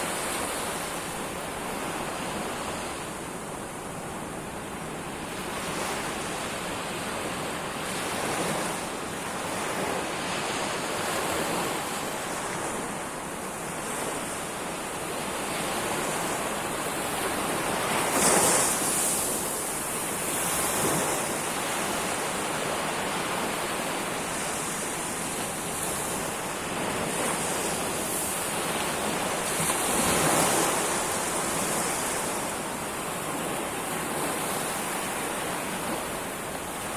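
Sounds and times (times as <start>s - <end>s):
sea waves breaking on shore: 0.0s - 36.9s.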